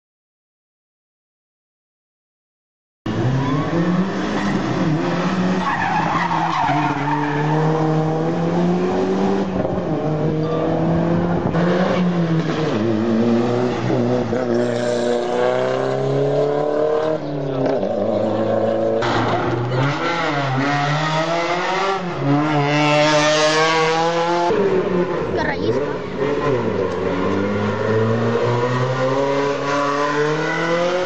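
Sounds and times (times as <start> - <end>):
race car engines accelerating: 3.1 - 31.0.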